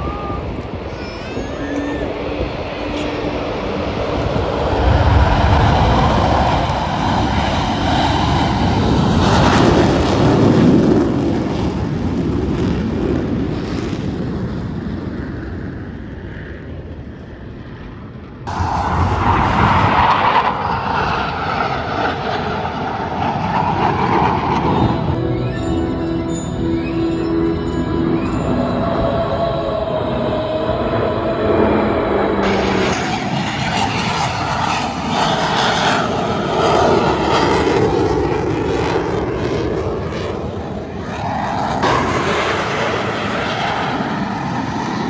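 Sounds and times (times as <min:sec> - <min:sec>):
jet planes flying past: 0:00.0 - 0:45.0.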